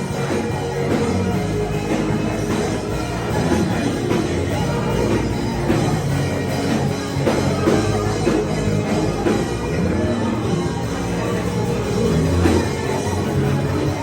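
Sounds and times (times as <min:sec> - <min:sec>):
loud band music with drums: 0:00.0 - 0:14.0.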